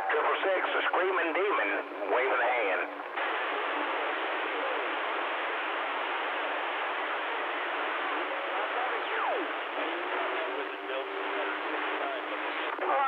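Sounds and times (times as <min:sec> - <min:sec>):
faint distant voices: 0:00.0 - 0:13.0
radio static hiss: 0:00.0 - 0:13.0.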